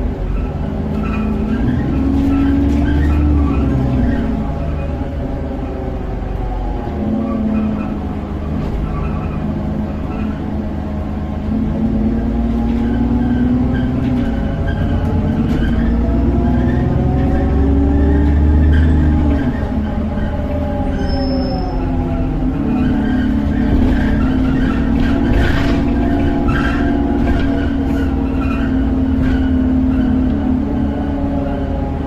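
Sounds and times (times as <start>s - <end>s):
bus diesel engine accelerating: 0.0s - 32.0s.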